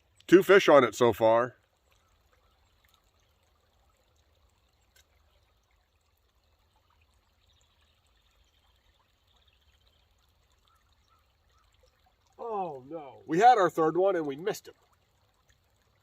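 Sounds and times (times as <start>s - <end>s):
trickle of running water: 0.0s - 16.0s.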